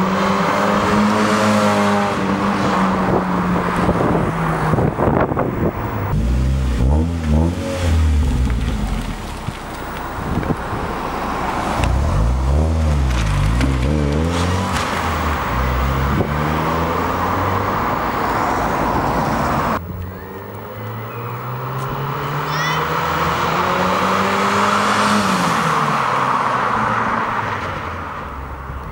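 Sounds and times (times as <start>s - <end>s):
car engine revving: 0.0s - 28.5s.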